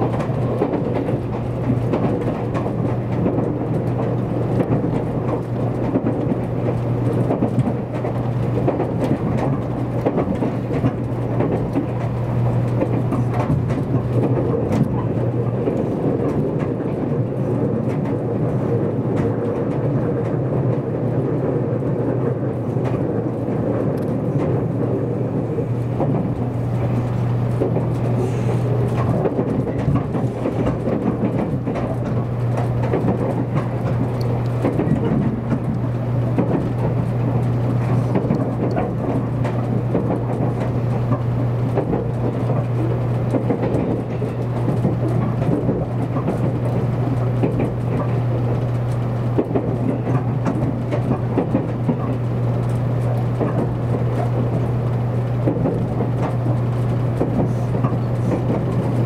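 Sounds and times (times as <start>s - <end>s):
constant low hum: 0.0s - 59.0s
train running at speed: 0.0s - 59.0s
wheel-on-rail rumble: 0.0s - 59.0s.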